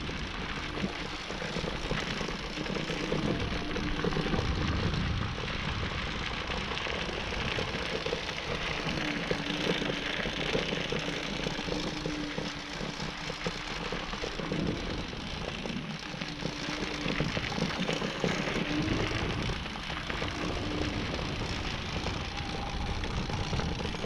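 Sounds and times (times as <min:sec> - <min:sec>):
electric motor hum: 0:00.0 - 0:24.0.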